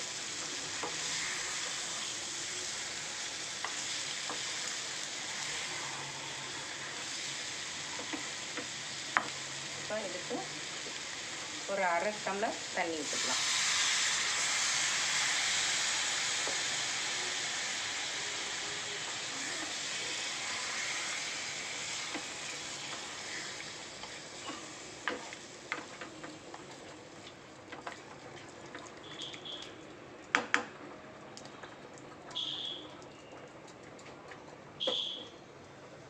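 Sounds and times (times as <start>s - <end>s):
water sizzling in hot pan: 0.0s - 29.9s.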